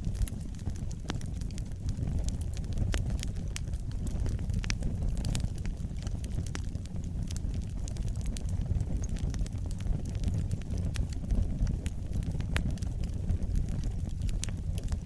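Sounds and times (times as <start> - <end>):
crackles and pops of burning logs: 0.0 - 15.0
wood fire burning: 0.0 - 15.0.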